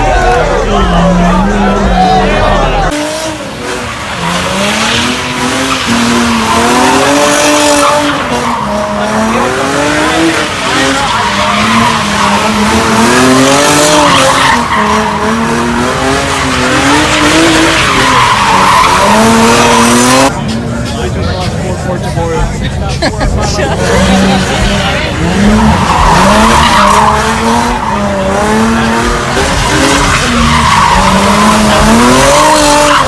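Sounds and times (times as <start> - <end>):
car engine revving: 0.0 - 33.0
tire squeal: 0.8 - 20.3, 24.0 - 33.0.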